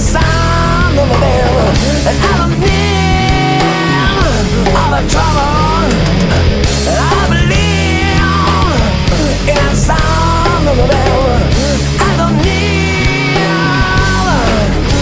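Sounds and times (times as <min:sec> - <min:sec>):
hard rock band playing: 0:00.0 - 0:15.0
sliding lead guitar line: 0:00.0 - 0:15.0.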